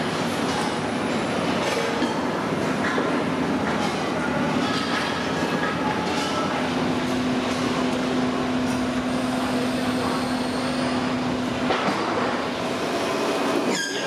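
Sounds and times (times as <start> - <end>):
factory machinery noise: 0.0 - 14.0.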